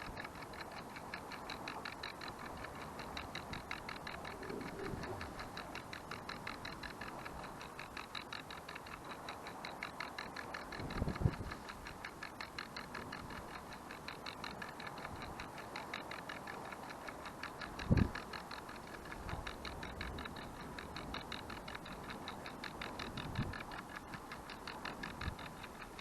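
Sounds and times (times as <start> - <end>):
kitchen timer ticking rapidly: 0.0 - 26.0.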